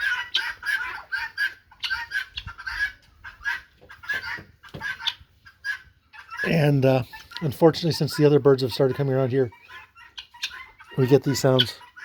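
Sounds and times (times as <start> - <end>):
guinea fowl calling: 0.0 - 12.0.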